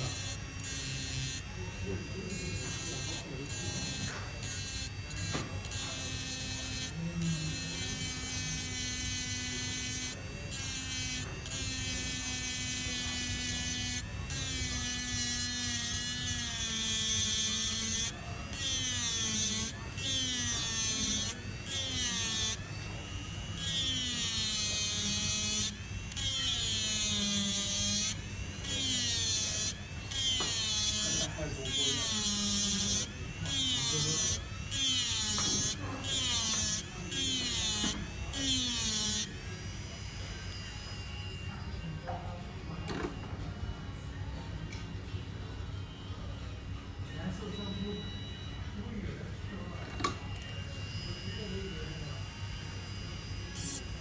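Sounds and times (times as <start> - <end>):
electric grinder whining on metal: 0.0 - 43.1, 49.8 - 54.0.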